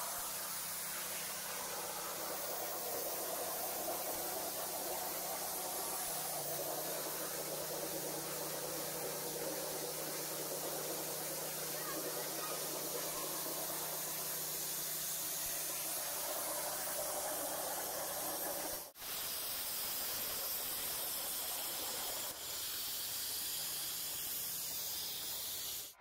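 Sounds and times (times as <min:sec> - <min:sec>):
plasma torch hissing: 0:00.0 - 0:26.0.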